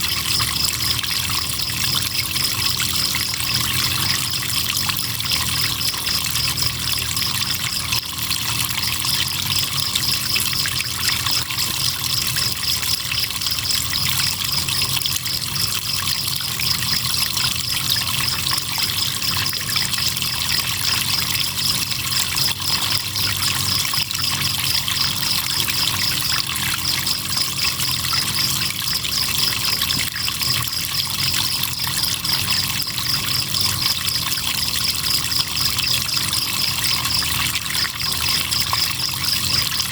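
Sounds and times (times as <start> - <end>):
crickets trilling: 0.0 - 39.9
flowing river water: 0.0 - 39.9.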